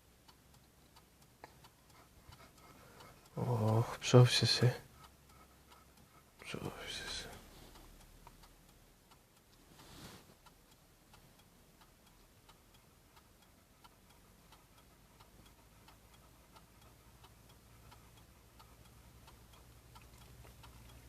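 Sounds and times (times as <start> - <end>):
faint even ticking: 0.0 - 21.0
soft rush of noise: 0.0 - 21.0.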